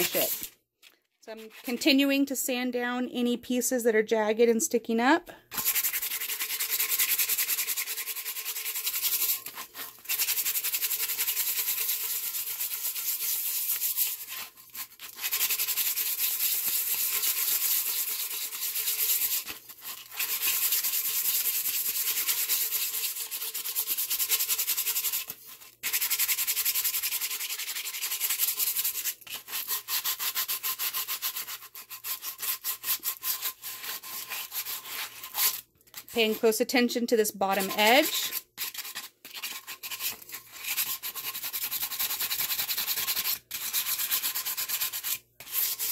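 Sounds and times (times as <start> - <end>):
sandpaper scratching: 0.0 - 0.5, 5.6 - 36.5, 37.6 - 45.9.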